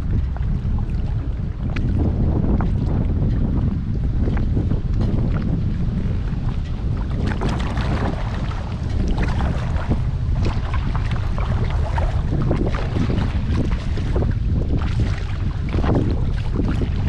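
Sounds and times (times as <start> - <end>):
paddle splashing in water: 0.0 - 17.0
wind noise on microphone: 0.0 - 17.0.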